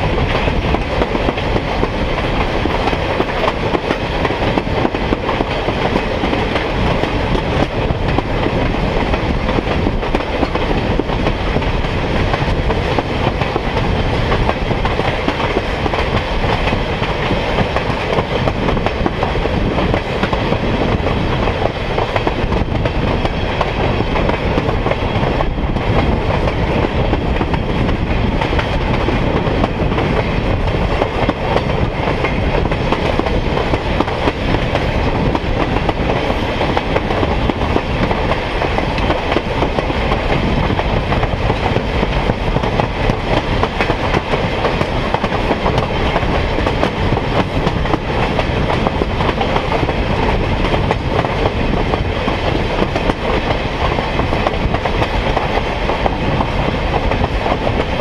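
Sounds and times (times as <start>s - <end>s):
clickety-clack of rail joints: 0.0s - 58.0s
steel wheels on rail: 0.0s - 58.0s.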